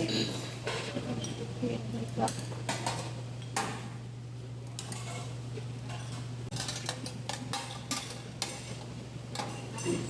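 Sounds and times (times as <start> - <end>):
metal utensils clattering on grill: 0.0 - 1.5, 2.1 - 4.0, 4.7 - 10.0
steady low hum: 0.0 - 10.0.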